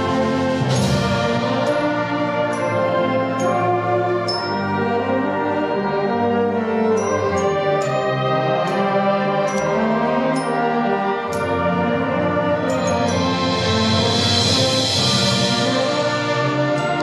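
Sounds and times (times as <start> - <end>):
wind band playing slow chords: 0.0 - 17.0.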